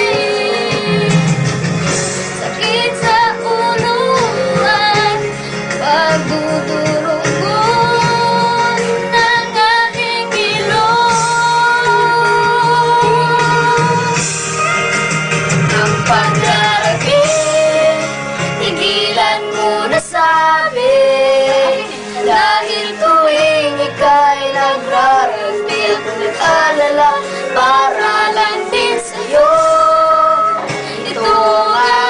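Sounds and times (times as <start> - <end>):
women singing: 0.0 - 1.5, 2.4 - 14.9, 15.7 - 32.0
acoustic guitar: 0.0 - 32.0.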